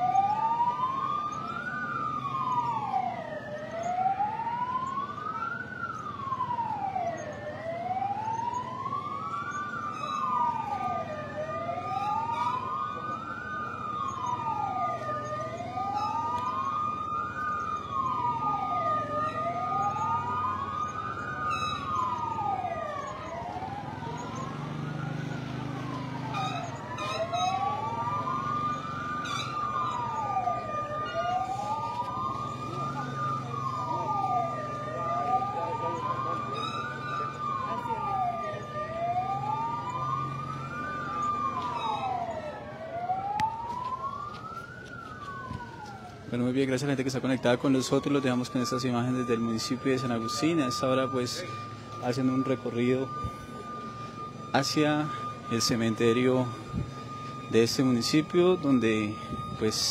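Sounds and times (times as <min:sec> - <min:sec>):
siren wailing: 0:00.0 - 0:59.9
steady siren tone: 0:00.0 - 0:59.9.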